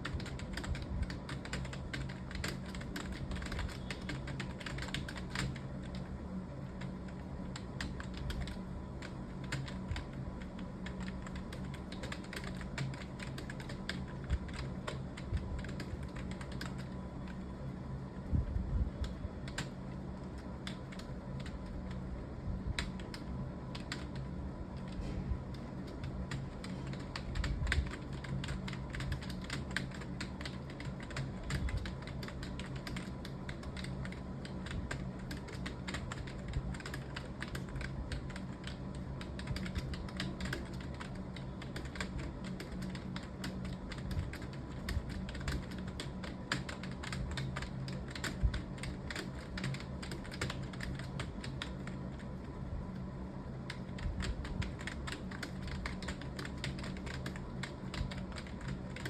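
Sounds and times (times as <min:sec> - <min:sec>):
fast typing on keyboard: 0:00.0 - 0:17.4, 0:18.9 - 0:52.5, 0:53.6 - 0:59.0
steady low hum: 0:00.0 - 0:59.0.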